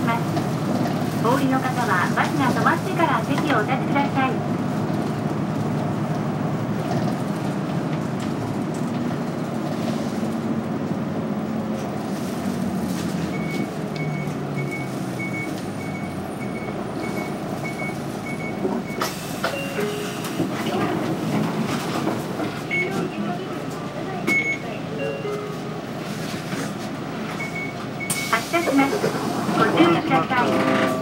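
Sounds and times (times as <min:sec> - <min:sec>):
bus engine and road noise: 0:00.0 - 0:31.0.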